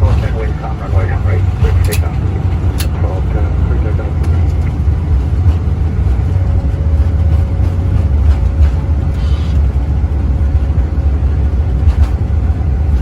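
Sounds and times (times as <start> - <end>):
airliner cockpit rumble: 0.0 - 13.0.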